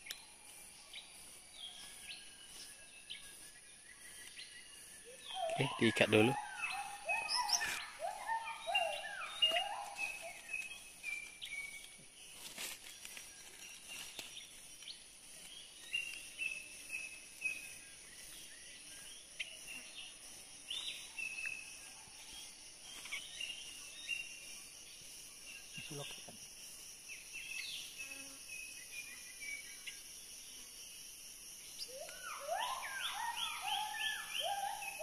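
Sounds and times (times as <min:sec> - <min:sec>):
birds chirping: 0:00.0 - 0:30.1, 0:31.6 - 0:35.0
insect drone: 0:00.0 - 0:35.0.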